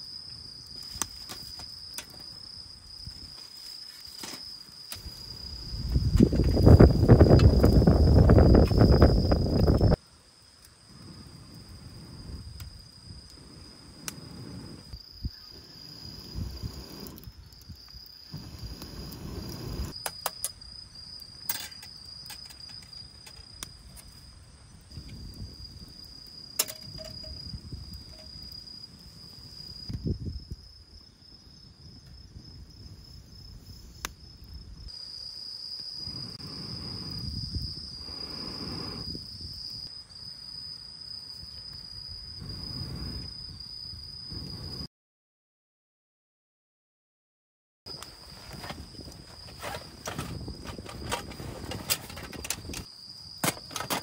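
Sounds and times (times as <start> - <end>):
crickets trilling: 0.0 - 44.9, 47.9 - 54.0.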